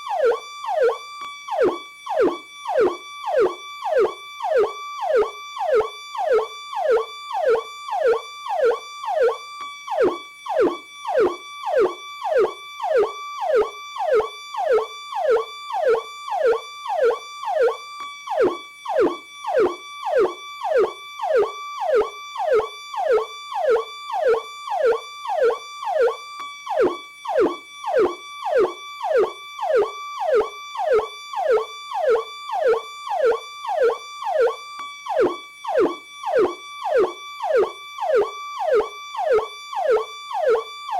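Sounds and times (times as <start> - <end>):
electronic police siren wailing: 0.0 - 40.9.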